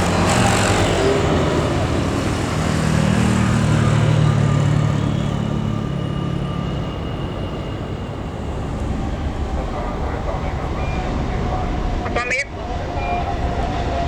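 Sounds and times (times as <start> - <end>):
jet airliner passing: 0.0 - 14.0
road traffic noise: 0.0 - 14.0.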